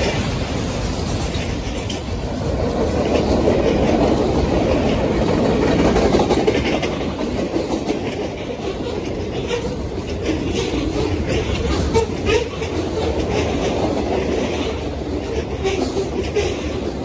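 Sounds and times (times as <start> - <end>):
freight train rolling past: 0.0 - 17.0
steel wheels clattering on rails: 0.0 - 17.0.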